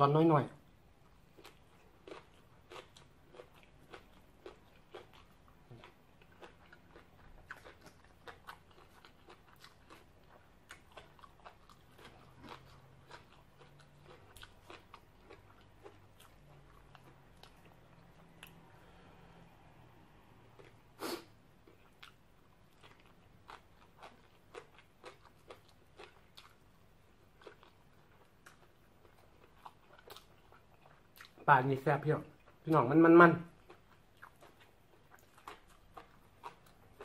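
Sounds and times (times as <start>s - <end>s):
chewing and crunching: 1.1s - 19.3s, 21.6s - 31.5s, 33.5s - 37.0s.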